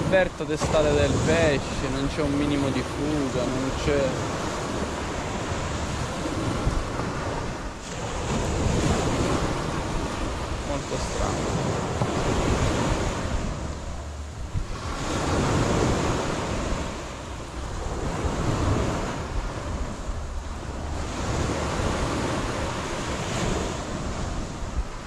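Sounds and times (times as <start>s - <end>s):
sea waves breaking on beach: 0.0s - 25.0s
wind buffeting microphone: 0.0s - 25.0s.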